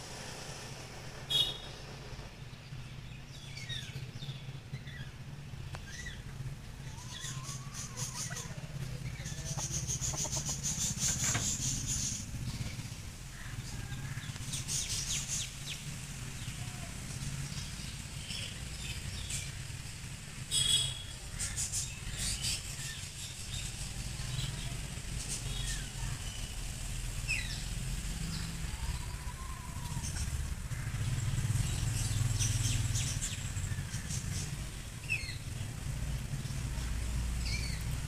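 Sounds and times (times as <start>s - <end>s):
small birds chirping: 2.5s - 38.0s.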